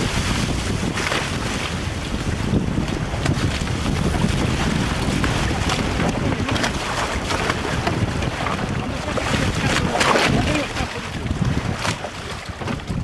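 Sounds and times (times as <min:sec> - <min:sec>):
water rushing along hulls: 0:00.0 - 0:13.0
wind buffeting microphone: 0:00.0 - 0:13.0.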